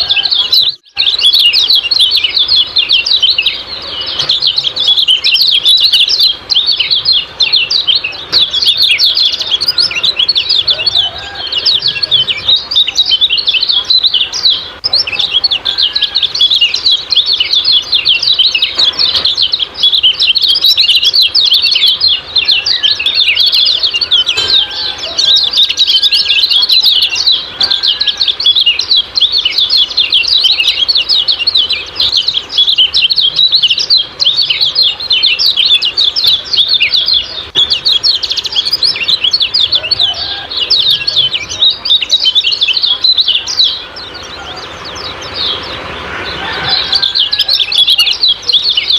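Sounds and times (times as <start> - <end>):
birds chirping rapidly: 0.0 - 48.9.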